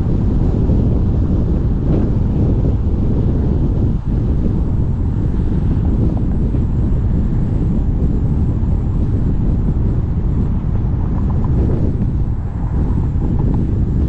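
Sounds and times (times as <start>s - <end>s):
car tyre and road noise: 0.0s - 14.0s
wind buffeting microphone: 0.0s - 14.0s.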